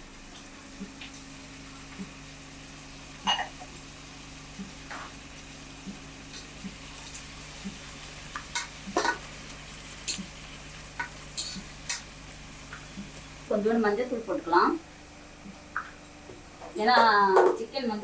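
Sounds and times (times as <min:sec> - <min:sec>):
onions sizzling in oil: 0:00.0 - 0:17.2.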